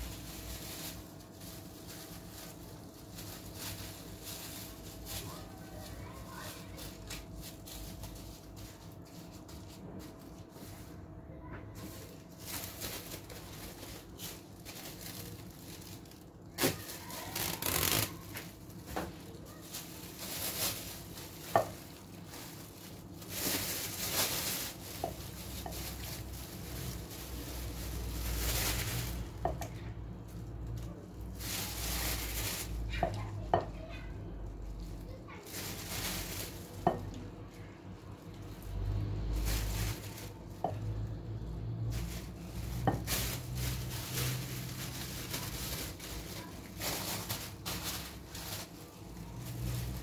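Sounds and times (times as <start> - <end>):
plastic bags rustling: 0.0 - 50.0.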